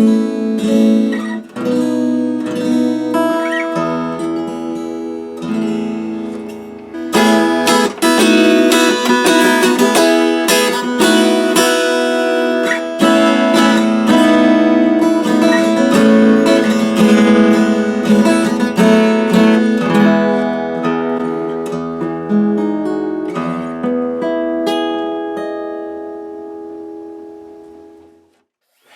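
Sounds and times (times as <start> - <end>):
acoustic guitar: 0.0 - 28.9.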